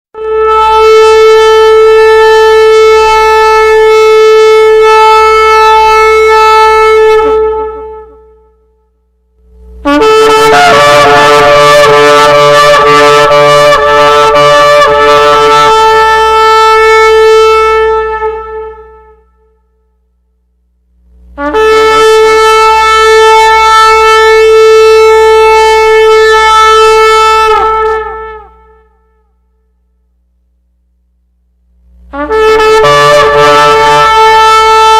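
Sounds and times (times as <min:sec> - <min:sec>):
shofar blasts: 0:00.1 - 0:08.9, 0:09.8 - 0:19.9, 0:21.4 - 0:29.7, 0:32.1 - 0:34.9.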